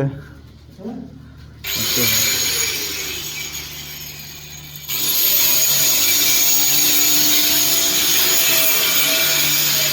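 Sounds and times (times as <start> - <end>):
power tool motor whining: 1.7 - 9.9.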